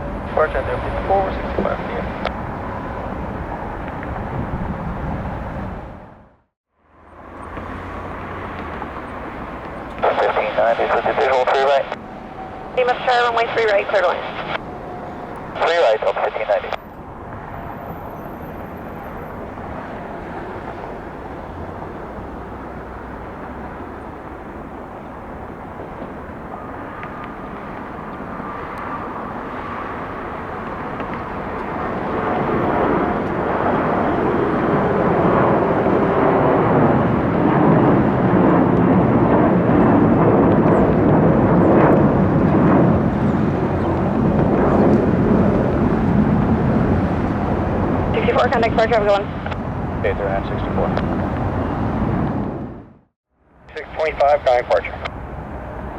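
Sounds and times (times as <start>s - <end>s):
jet engine rumble on takeoff: 0.0s - 55.9s.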